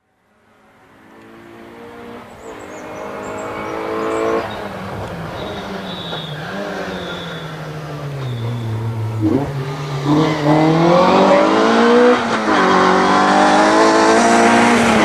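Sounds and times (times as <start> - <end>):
rally car engine accelerating: 1.0 - 15.0.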